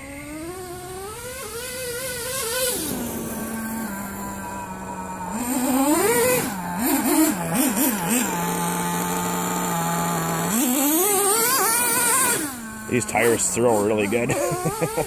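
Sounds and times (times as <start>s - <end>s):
small nitro engine revving: 0.0s - 15.0s.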